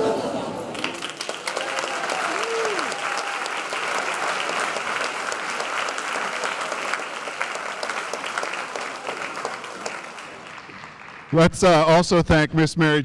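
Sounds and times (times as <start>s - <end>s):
audience applauding: 0.6s - 12.2s.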